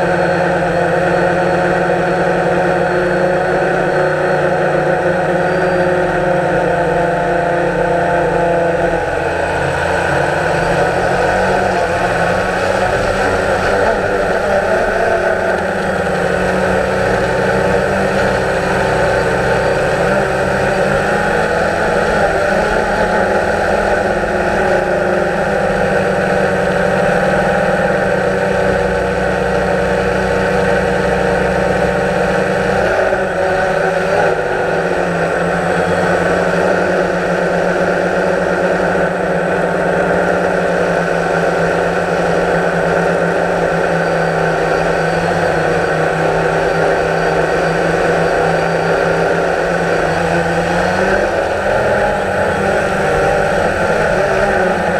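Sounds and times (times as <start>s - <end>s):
drone propellers whirring: 0.0s - 54.9s.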